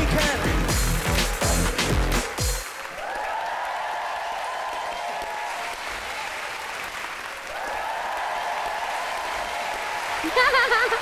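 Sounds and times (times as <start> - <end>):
audience applauding and cheering: 0.0 - 11.0.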